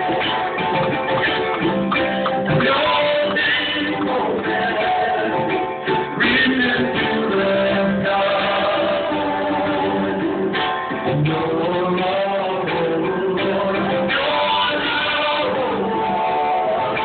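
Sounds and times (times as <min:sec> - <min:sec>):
live band playing: 0:00.0 - 0:17.0
people singing: 0:00.0 - 0:17.0.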